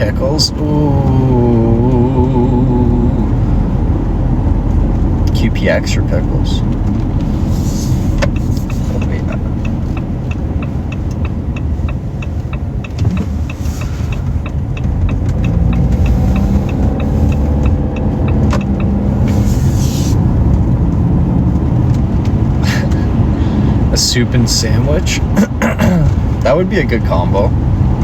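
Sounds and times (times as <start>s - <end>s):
car turn signal ticking: 0.0s - 25.5s
car engine rumble: 0.0s - 28.0s
road noise: 0.0s - 28.0s.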